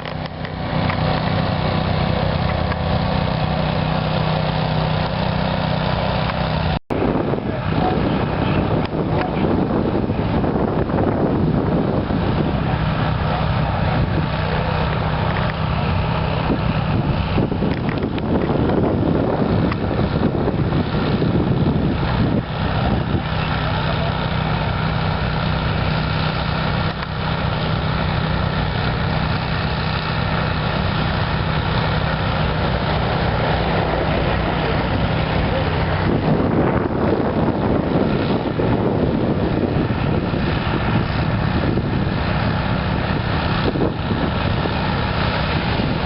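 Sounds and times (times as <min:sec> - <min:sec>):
heavy vehicle engine droning: 0:00.0 - 0:46.0.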